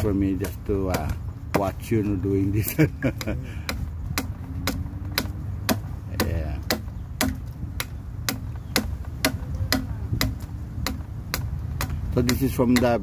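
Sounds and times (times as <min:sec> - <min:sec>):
adze chopping wood: 0:00.0 - 0:13.0
low background rumble: 0:00.0 - 0:13.0.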